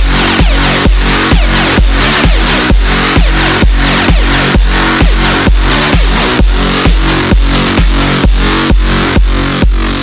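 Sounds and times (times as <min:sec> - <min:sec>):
electronic dance music: 0:00.0 - 0:10.0
pumping bass line: 0:00.0 - 0:10.0
steady kick drum: 0:00.0 - 0:10.0.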